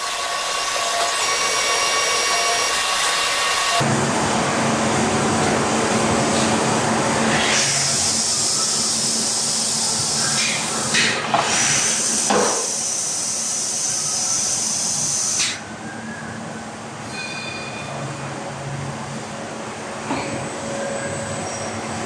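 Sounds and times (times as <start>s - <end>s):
machine humming and hissing: 0.0s - 22.0s.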